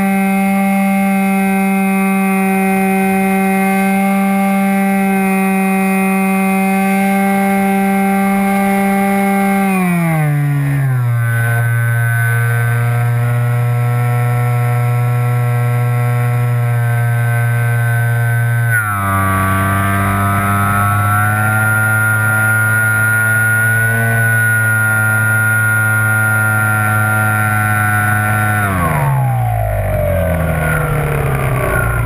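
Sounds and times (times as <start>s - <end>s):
model plane motor whining: 0.0s - 32.0s.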